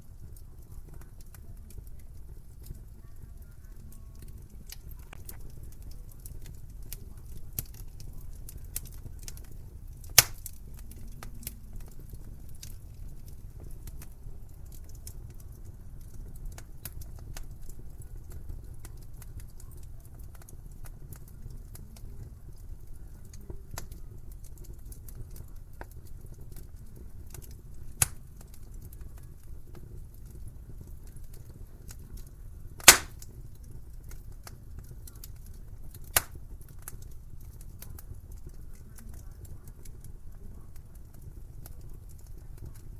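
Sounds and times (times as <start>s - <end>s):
wood fire crackling: 0.0s - 42.9s
loud fire pops: 0.2s - 42.9s.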